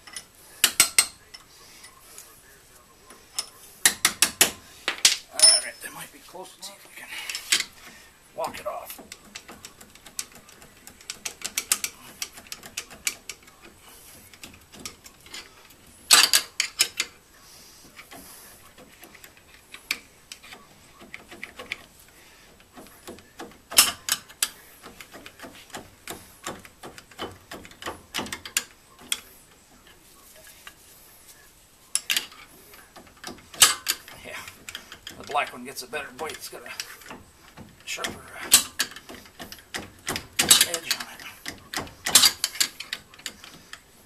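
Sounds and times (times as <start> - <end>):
hand tools clicking and scraping metal: 0.0 - 44.0.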